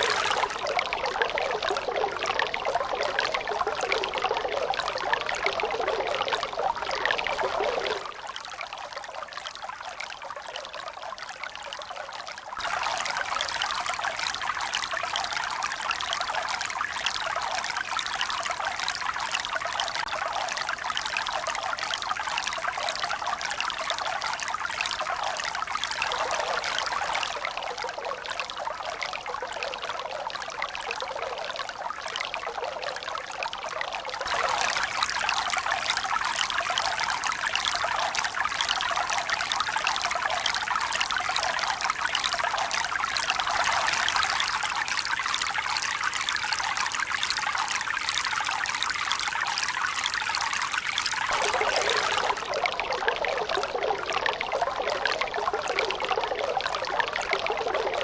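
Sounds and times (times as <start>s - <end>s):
water trickling and pouring: 0.0s - 58.0s.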